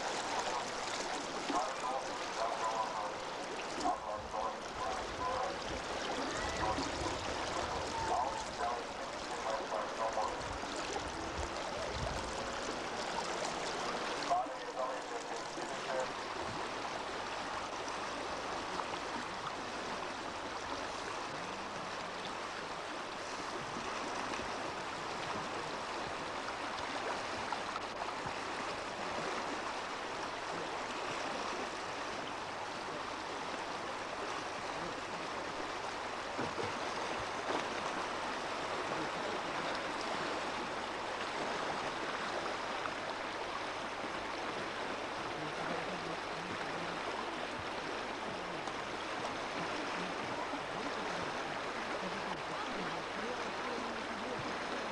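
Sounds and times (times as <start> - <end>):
river rapids rushing: 0.0 - 54.9.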